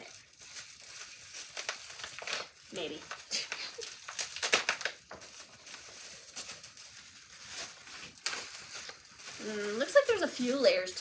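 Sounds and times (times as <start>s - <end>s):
packaging wrap crinkling: 0.0s - 11.0s.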